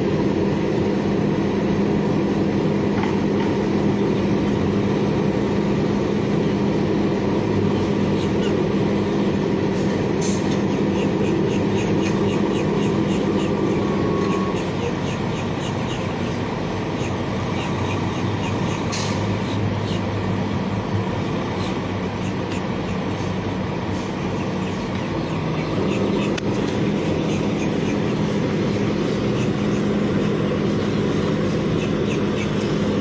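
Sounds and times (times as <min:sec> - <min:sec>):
trucks idling: 0:00.0 - 0:33.0.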